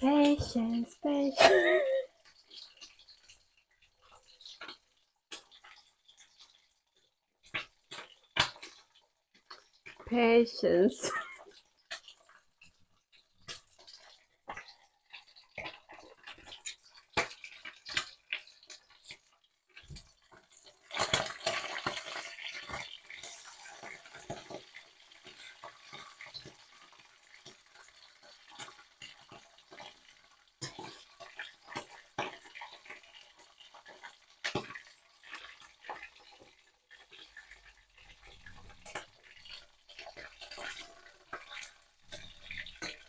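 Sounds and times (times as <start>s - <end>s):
fish sizzling in hot oil: 0.0s - 1.4s, 2.0s - 43.0s.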